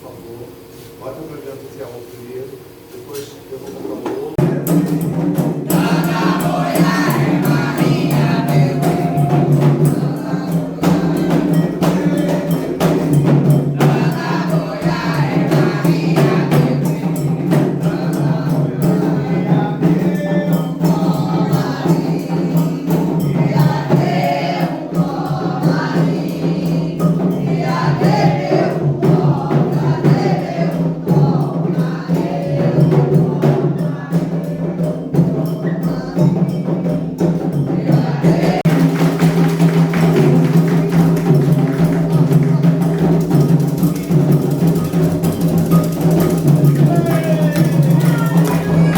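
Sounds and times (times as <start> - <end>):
bright struck percussion: 4.0 - 48.9
hand drums beating: 4.0 - 48.9
group singing a chant: 4.4 - 48.9.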